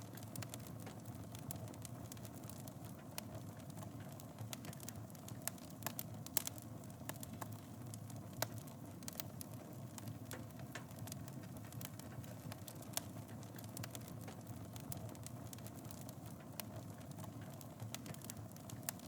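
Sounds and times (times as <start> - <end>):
fire crackles and pops: 0.0 - 19.0
fire low rumble: 0.0 - 19.0.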